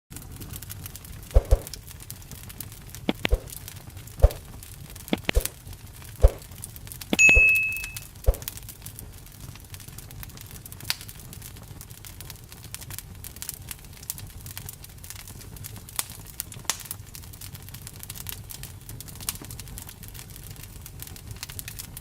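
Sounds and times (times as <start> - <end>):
low rumble of fire: 0.1 - 7.2, 8.0 - 22.0
campfire pops and crackles: 0.2 - 7.2, 8.0 - 22.0.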